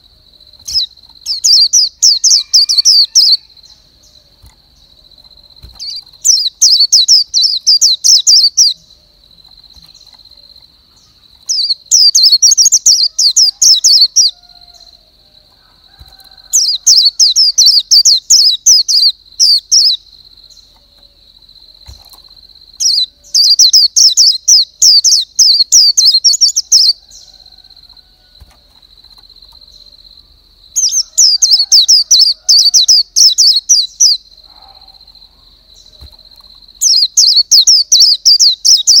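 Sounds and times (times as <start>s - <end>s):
bird singing high chirps: 0.0s - 15.1s, 16.0s - 27.6s, 30.7s - 39.0s.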